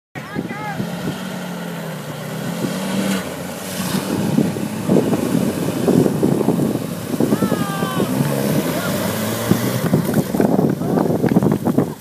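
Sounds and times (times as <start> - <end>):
car engine running: 0.2 - 12.0
water splashing and churning: 0.7 - 12.0.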